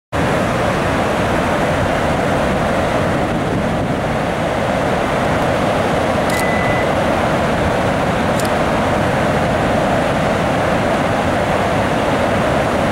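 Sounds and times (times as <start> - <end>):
water rushing from dam: 0.2 - 12.9.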